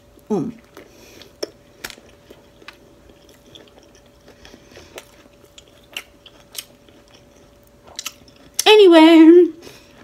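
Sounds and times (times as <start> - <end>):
person chewing food: 0.0 - 8.6, 9.6 - 10.0.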